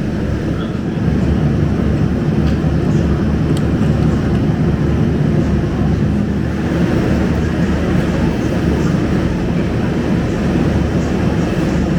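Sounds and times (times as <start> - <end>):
bus diesel engine droning: 0.0 - 11.9.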